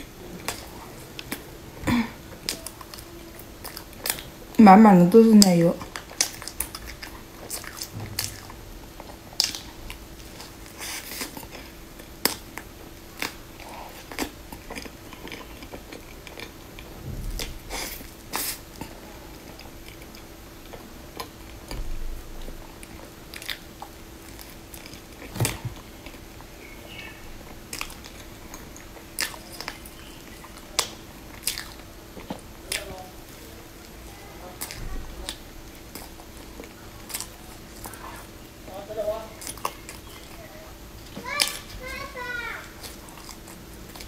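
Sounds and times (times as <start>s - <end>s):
chewing: 0.0s - 1.5s, 2.3s - 4.3s, 5.8s - 41.8s, 42.7s - 44.0s
faint steady hum: 0.0s - 44.0s
crunching fried food: 5.8s - 44.0s.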